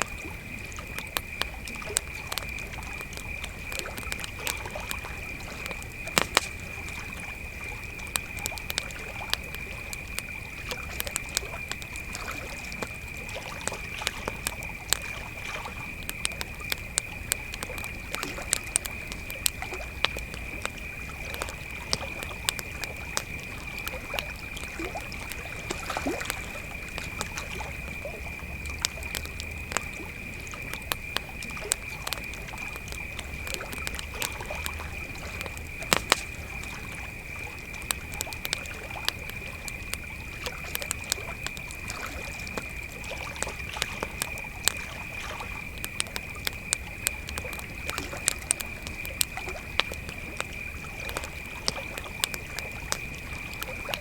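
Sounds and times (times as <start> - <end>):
campfire crackling and popping: 0.0 - 54.0
crickets trilling: 0.0 - 54.0.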